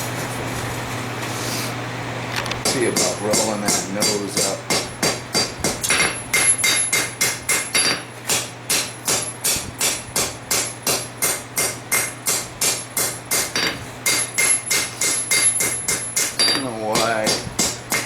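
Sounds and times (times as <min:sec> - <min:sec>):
hammer striking hot steel on anvil: 0:02.6 - 0:18.0.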